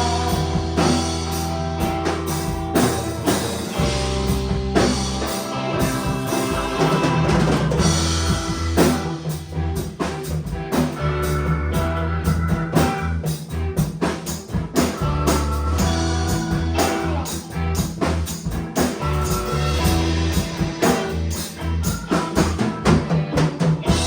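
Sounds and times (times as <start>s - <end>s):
rock band playing: 0.0s - 24.0s.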